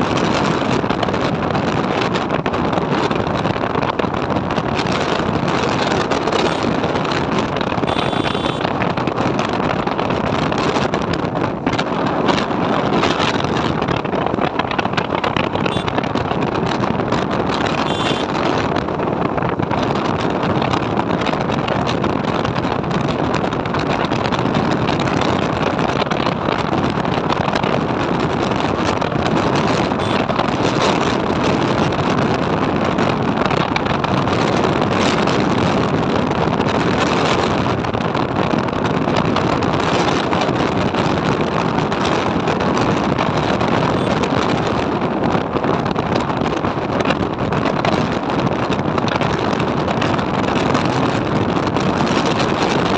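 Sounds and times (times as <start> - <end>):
motorcycle running: 0.0 - 52.9
wind on microphone: 0.0 - 52.9.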